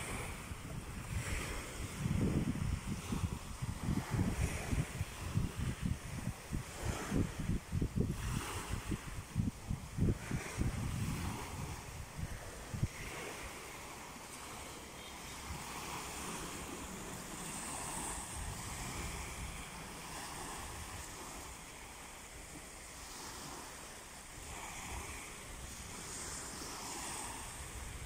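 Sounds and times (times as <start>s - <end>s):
waves washing on pebbles: 0.0s - 28.0s
wind rumbling on microphone: 0.0s - 28.0s.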